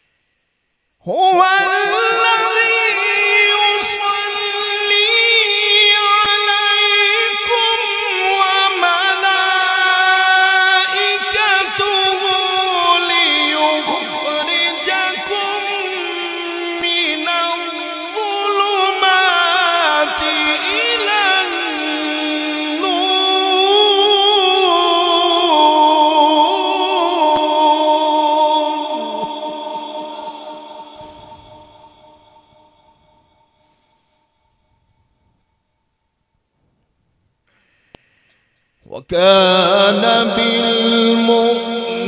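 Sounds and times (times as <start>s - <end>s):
man reciting melodically: 1.0s - 33.0s, 38.8s - 42.0s.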